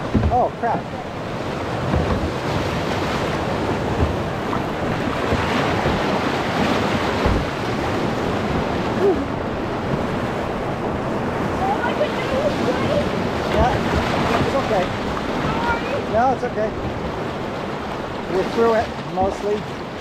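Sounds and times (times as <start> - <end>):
paddle splashing in waves: 0.0 - 20.0
whitewater rapids rushing: 0.0 - 20.0
wind buffeting microphone: 0.0 - 20.0.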